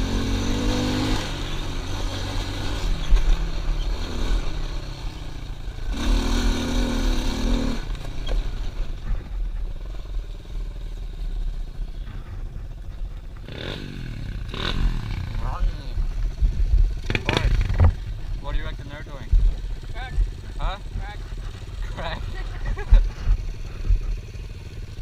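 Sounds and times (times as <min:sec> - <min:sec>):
pit bike engine revving: 0:00.0 - 0:25.0.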